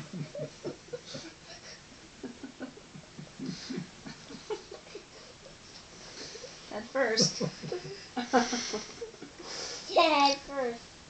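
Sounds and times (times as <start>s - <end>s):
boy and woman giggling: 0.0s - 9.4s.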